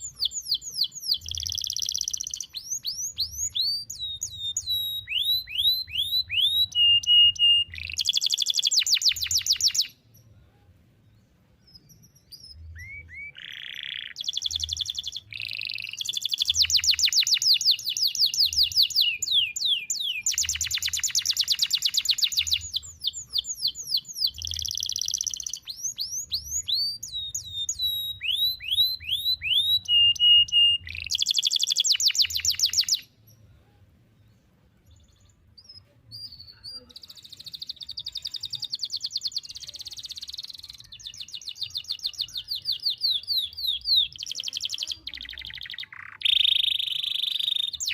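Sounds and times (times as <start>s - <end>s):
canary singing: 0.0s - 10.4s, 11.6s - 33.4s, 34.8s - 47.9s.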